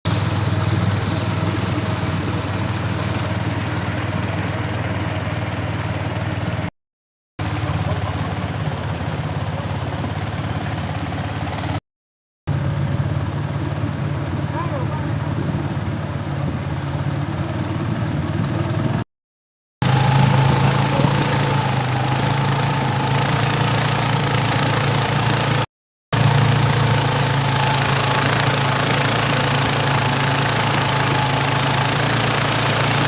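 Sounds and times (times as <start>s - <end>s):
boat engine droning: 0.1s - 6.7s, 7.4s - 11.8s, 12.5s - 19.0s, 19.8s - 33.0s.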